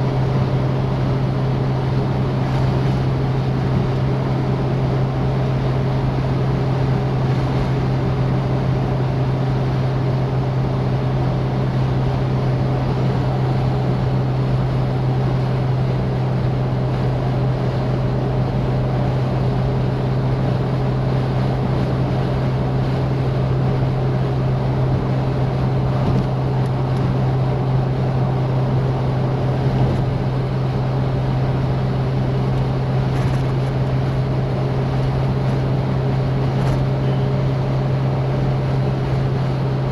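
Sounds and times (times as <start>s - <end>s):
car engine humming: 0.0s - 39.9s
road and wind noise: 0.0s - 39.9s.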